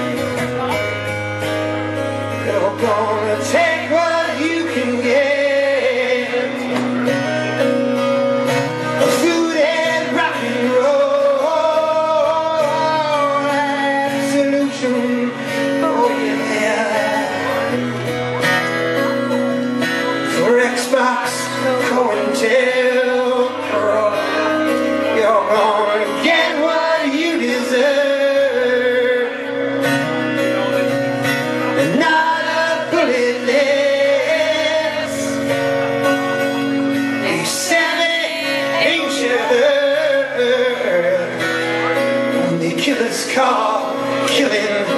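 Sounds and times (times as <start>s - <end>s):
man singing: 0.0s - 44.9s
strummed acoustic guitar: 0.0s - 44.9s.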